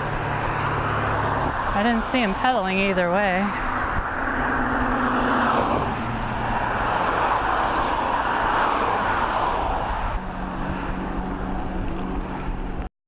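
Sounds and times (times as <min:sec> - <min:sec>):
road traffic rushing by: 0:00.0 - 0:12.9.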